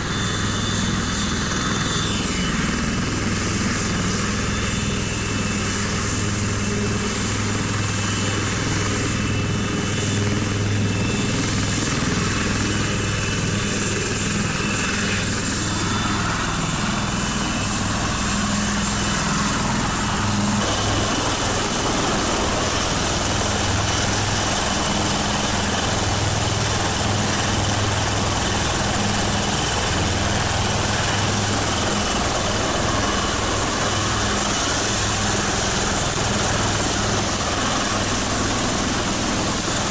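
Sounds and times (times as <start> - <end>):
helicopter rotor hum: 0.0 - 39.9
turbine whine: 0.0 - 39.9.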